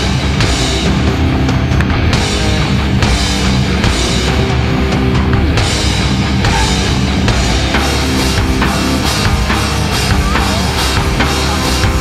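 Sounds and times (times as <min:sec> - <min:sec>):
rock music with drum beat: 0:00.0 - 0:12.0.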